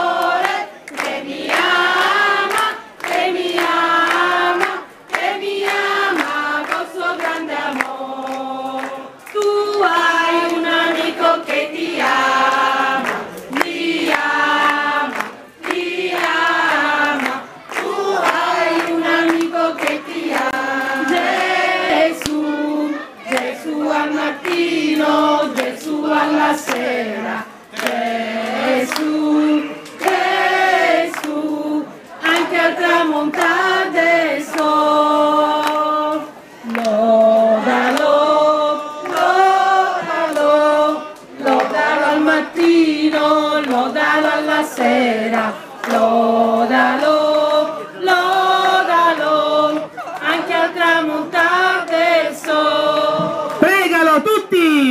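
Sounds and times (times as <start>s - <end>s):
group of women singing: 0.0s - 53.7s
hands clapping along: 0.0s - 54.9s.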